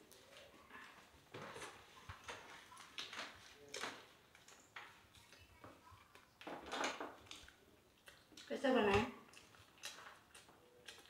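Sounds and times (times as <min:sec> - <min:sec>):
food being chewed: 0:00.0 - 0:11.0.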